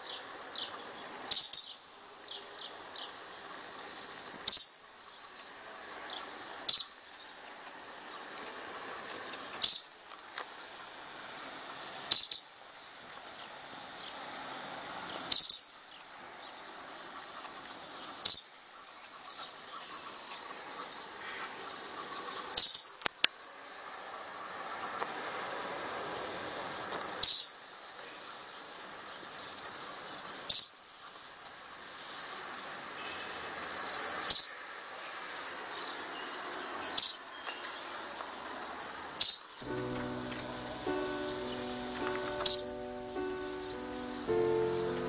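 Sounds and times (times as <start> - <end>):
small birds chirping: 0.0 - 10.9, 11.6 - 14.4, 15.0 - 38.5, 39.2 - 45.0.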